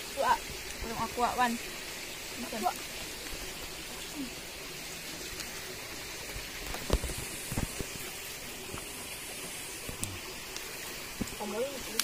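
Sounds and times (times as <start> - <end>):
small river rushing: 0.0 - 12.0.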